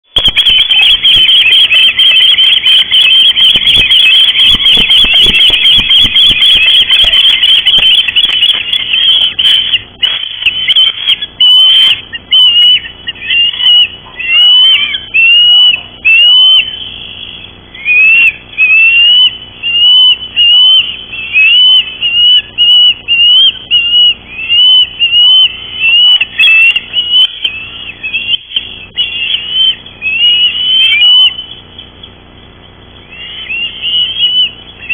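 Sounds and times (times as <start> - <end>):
ospreys whistling chirps: 0.1 - 32.2, 32.9 - 34.9
wings beating: 0.1 - 34.9.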